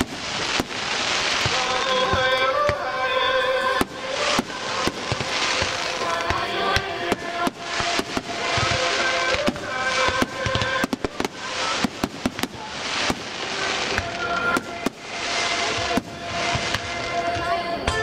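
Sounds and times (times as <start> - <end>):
hiss of burning shells: 0.0 - 17.3
fireworks bangs and crackles: 0.0 - 18.0.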